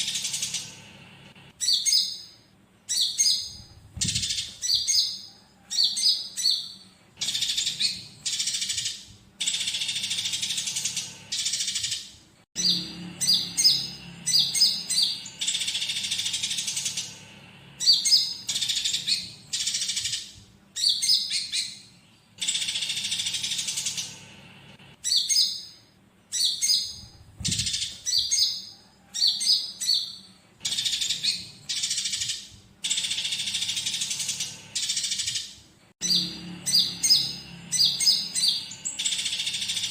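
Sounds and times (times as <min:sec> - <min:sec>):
sparrows chattering: 0:00.0 - 0:24.4, 0:25.0 - 0:39.9
bird song with buzzing trills: 0:00.0 - 0:39.9.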